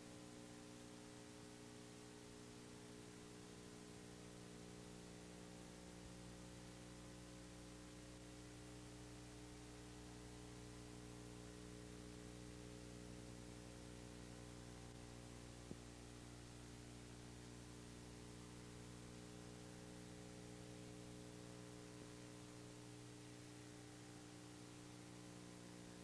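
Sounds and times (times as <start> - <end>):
electrical hum with hiss: 0.0 - 26.0.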